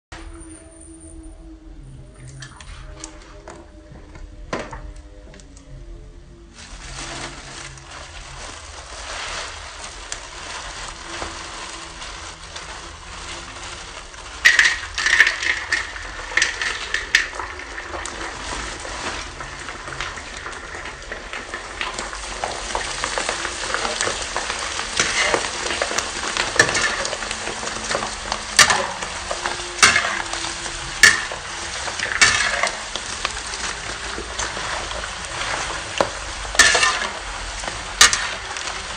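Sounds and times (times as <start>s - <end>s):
hot oil sizzling: 6.6s - 38.9s
metal utensils scraping a wok: 6.8s - 38.9s.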